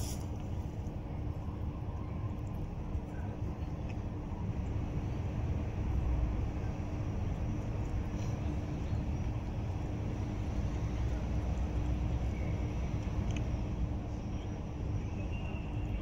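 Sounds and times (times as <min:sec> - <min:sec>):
faint constant hum: 0:00.0 - 0:16.0
low background rumble: 0:00.0 - 0:16.0.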